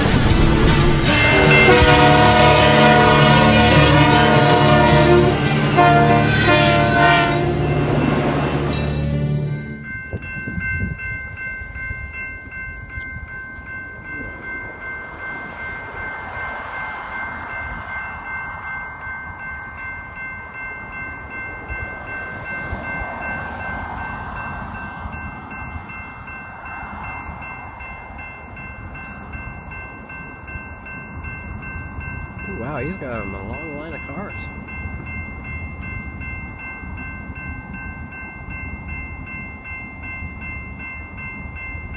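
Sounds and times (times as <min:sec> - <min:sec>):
freight train rumbling on rails: 0:00.0 - 0:41.9
railroad crossing bell ringing: 0:00.0 - 0:41.9.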